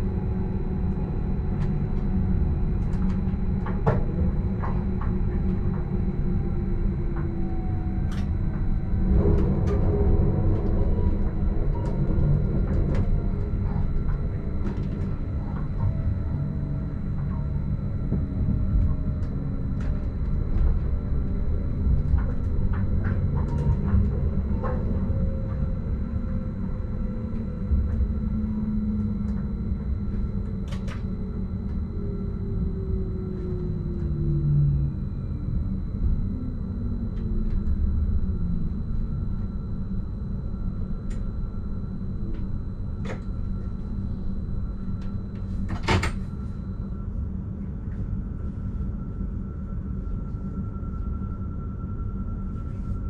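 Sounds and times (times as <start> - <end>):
motor whine: 0.0 - 48.2.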